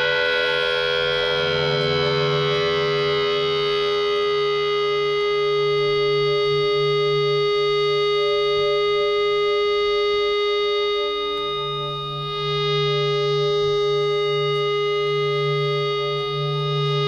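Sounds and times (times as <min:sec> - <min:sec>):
ambient nylon-string guitar drone: 0:00.0 - 0:17.0.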